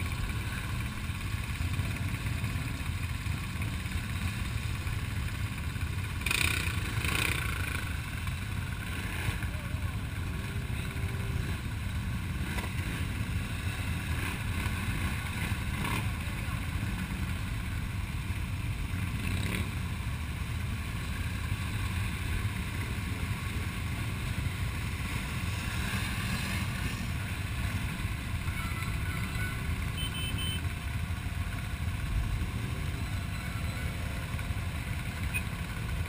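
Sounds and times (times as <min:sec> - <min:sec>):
quad engines idling: 0:00.0 - 0:36.0.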